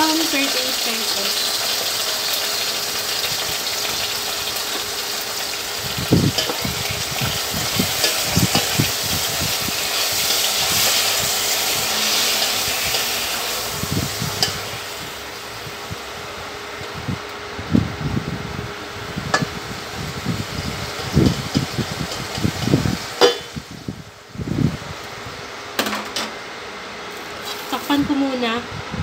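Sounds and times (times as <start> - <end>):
chicken sizzling in hot oil: 0.0 - 17.0, 17.9 - 24.9, 27.4 - 28.0.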